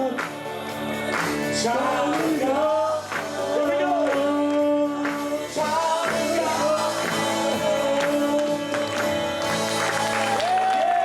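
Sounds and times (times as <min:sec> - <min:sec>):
band accompaniment: 0:00.0 - 0:11.0
men singing gospel: 0:00.0 - 0:11.0.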